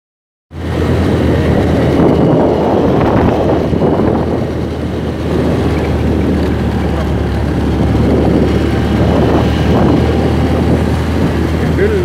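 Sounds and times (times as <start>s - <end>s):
motorcycle engine running: 0.6s - 12.0s
wind buffeting microphone: 0.6s - 12.0s.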